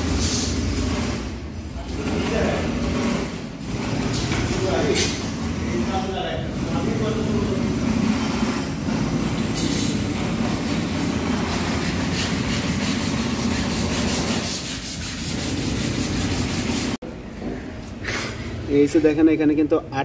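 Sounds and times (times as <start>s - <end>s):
fast regular scratching: 0.0s - 17.0s
scraping and rubbing: 0.0s - 17.0s.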